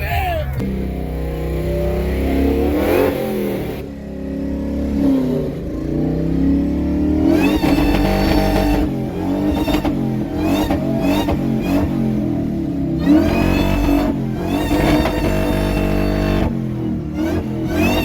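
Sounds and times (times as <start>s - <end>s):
truck engine revving: 0.0s - 18.0s
supercharger whine: 0.6s - 18.0s.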